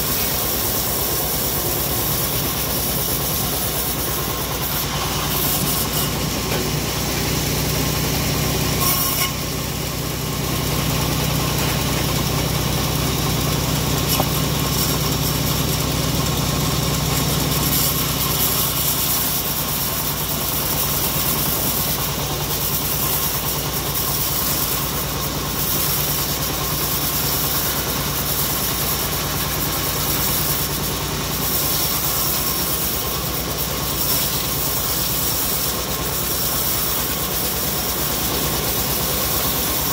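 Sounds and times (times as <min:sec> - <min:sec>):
bandsaw mill engine humming: 0:00.0 - 0:39.9
saw blade hissing through log: 0:00.0 - 0:39.9.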